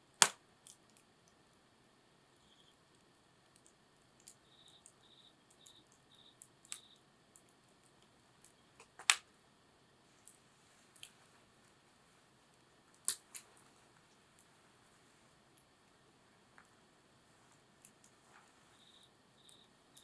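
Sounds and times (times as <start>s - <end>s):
campfire wood crackling: 0.1s - 1.6s, 2.8s - 20.0s.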